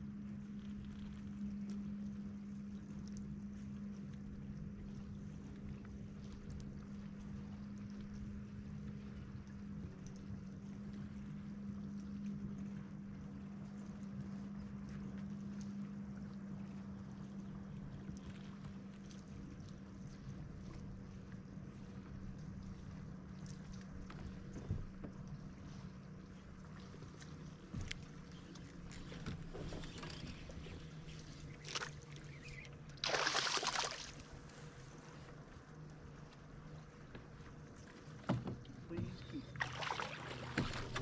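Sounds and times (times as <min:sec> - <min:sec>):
faint wind: 0:00.0 - 0:41.0
water noise: 0:00.0 - 0:41.0.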